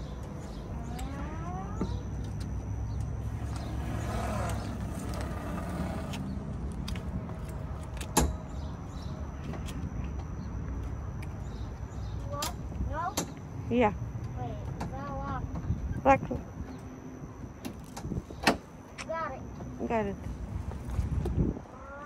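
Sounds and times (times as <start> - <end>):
motor vehicle rumbling: 0.0 - 22.0.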